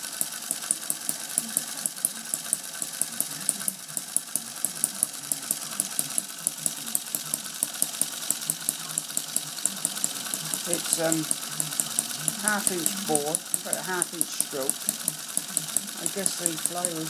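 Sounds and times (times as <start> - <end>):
small engine ticking steadily: 0.0 - 17.0.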